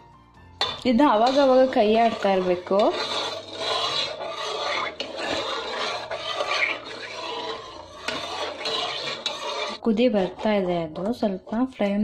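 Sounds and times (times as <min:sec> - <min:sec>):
metal spoon scraping a pan: 0:00.6 - 0:12.0.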